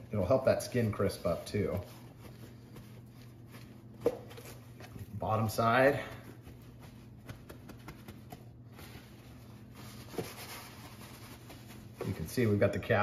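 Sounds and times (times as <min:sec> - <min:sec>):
paper towels rubbing on meat: 0:00.0 - 0:13.0.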